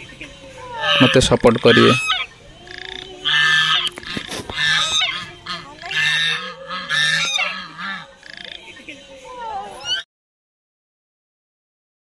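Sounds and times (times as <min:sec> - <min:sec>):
geese honking: 0:00.0 - 0:10.1.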